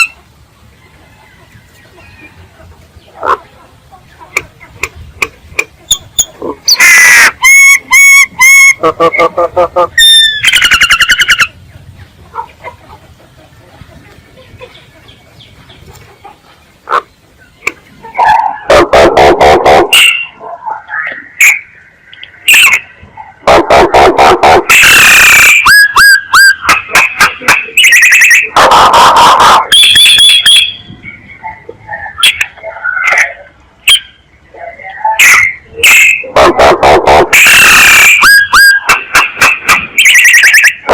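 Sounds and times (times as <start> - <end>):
myna calling: 1.9 - 13.1, 13.9 - 40.9.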